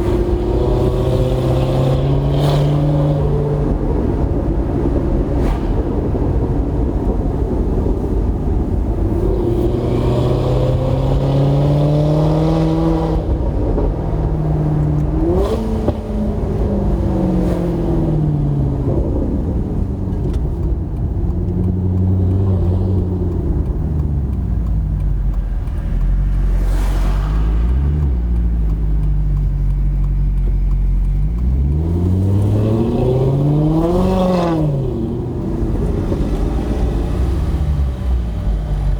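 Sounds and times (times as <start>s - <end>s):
sports car engine revving: 0.0s - 6.3s, 9.0s - 38.9s.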